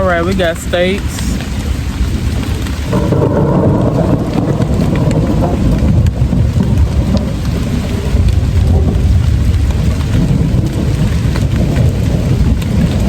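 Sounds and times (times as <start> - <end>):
steady rain: 0.0 - 13.0
thunder rumbling: 0.0 - 13.0.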